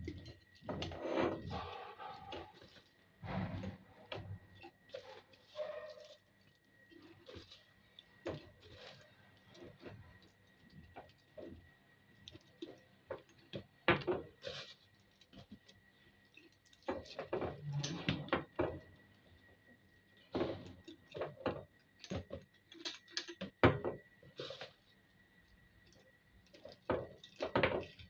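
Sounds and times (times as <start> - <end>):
objects knocking and clattering: 0.0 - 19.0, 20.1 - 24.7, 25.8 - 28.0.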